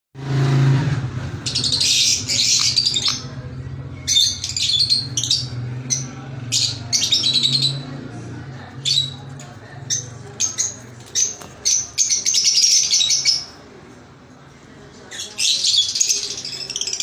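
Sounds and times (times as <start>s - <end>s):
parrots chirping and squawking: 1.2s - 14.0s, 14.8s - 17.0s.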